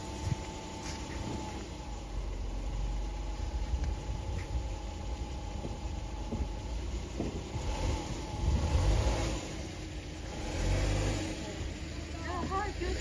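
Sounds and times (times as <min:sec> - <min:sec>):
tyres hissing on wet pavement: 0:00.0 - 0:13.0
van engine running: 0:00.0 - 0:13.0.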